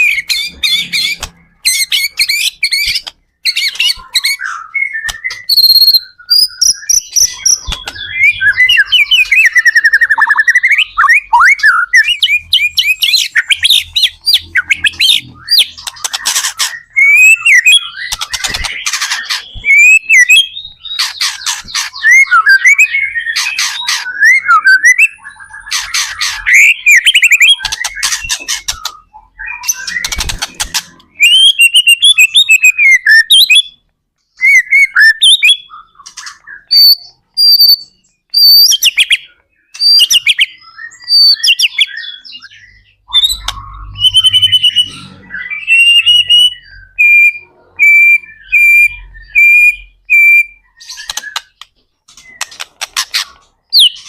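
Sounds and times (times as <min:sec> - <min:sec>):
songbird singing trills and whistles: 0:00.0 - 0:54.0.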